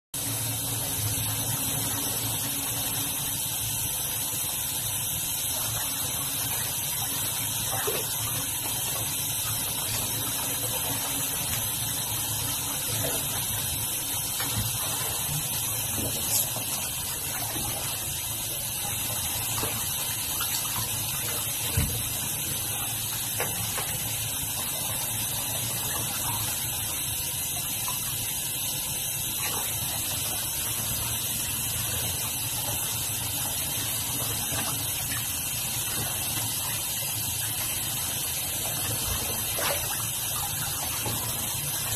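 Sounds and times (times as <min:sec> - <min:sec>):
water pouring from tap into bathtub: 0:00.2 - 0:41.9.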